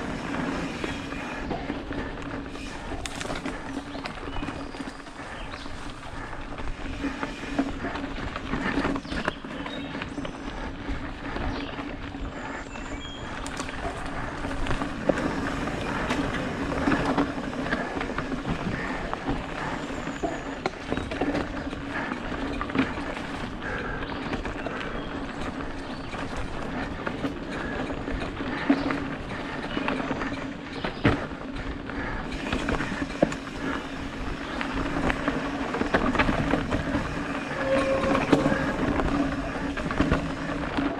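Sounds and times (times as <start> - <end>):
bike chain and frame rattling: 0.0 - 40.9
tyres rolling over dirt: 0.0 - 40.9.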